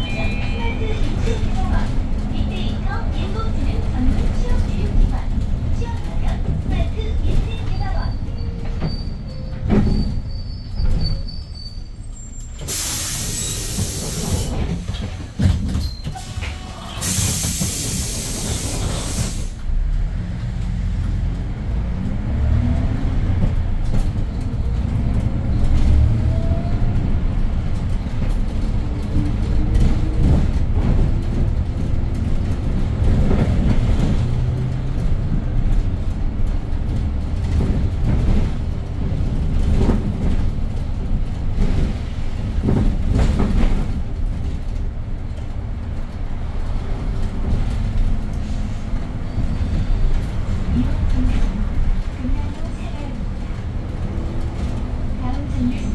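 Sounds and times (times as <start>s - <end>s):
bus engine accelerating: 0.0s - 55.9s.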